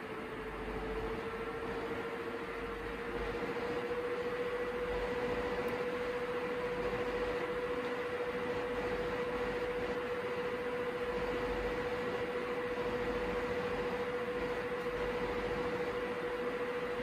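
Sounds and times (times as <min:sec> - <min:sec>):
computer fans whirring: 0:00.0 - 0:17.0.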